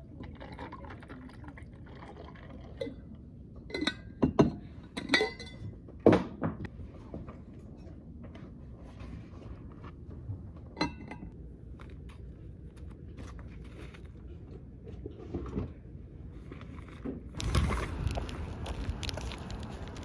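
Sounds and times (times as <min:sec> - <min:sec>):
low office hum: 0:00.0 - 0:20.0.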